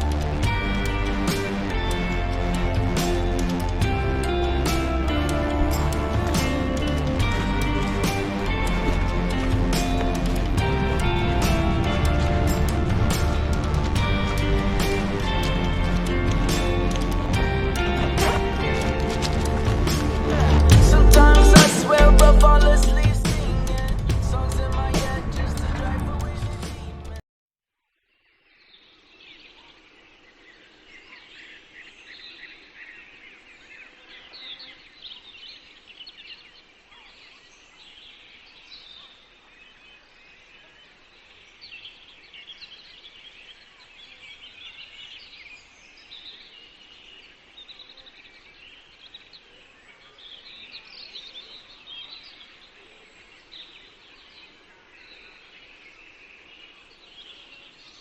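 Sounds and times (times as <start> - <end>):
small birds chirping: 0.0 - 26.8, 28.2 - 58.0.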